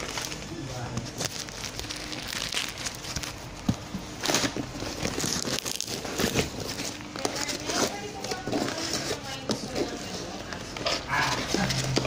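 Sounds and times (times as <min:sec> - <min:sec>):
plastic and cardboard crinkling: 0:00.0 - 0:12.0.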